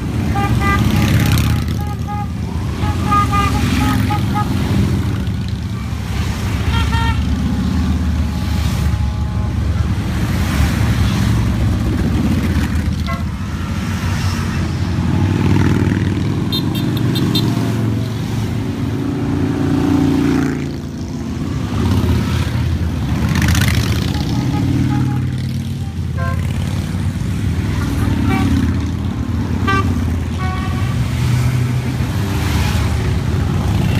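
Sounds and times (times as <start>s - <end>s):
motorcycles riding past: 0.0s - 9.0s, 9.6s - 33.9s.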